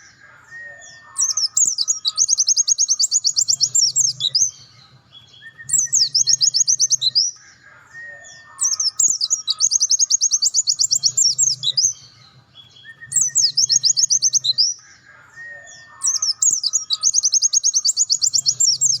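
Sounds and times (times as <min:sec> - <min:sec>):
bird singing fast high trills: 0:00.0 - 0:07.4, 0:08.0 - 0:14.8, 0:15.4 - 0:19.0.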